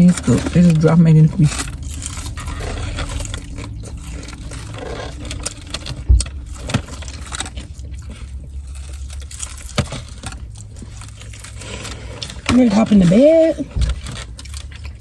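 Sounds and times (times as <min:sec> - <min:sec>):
clicks and rustles of food handling: 0:00.0 - 0:15.0
low hum inside car cabin: 0:00.0 - 0:15.0.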